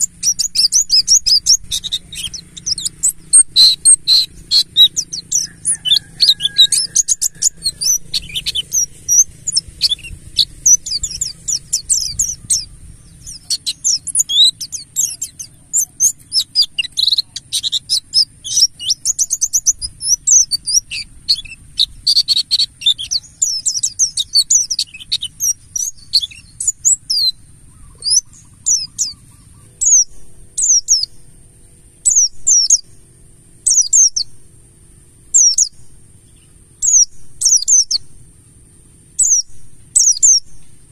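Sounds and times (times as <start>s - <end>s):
birds twittering: 0.0s - 40.9s.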